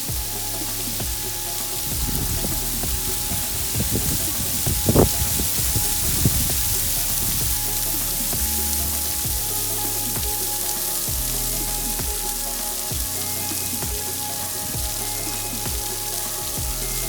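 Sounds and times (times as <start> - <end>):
soft background music: 0.0 - 17.0
waterfall rushing: 0.0 - 17.0.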